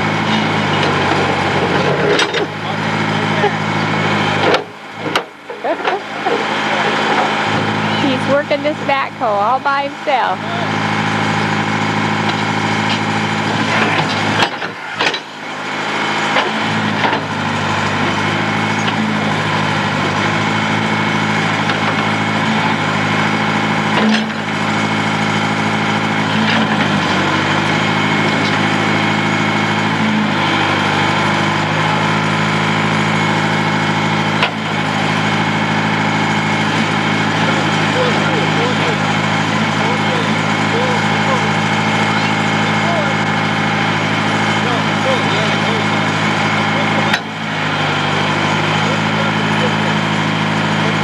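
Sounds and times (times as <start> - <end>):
backhoe engine running: 0.0 - 51.0.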